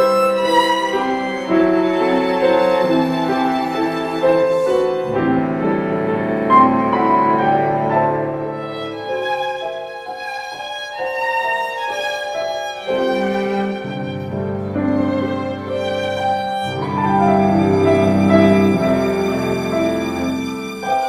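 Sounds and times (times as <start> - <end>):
violin bowed melody: 0.0 - 21.0.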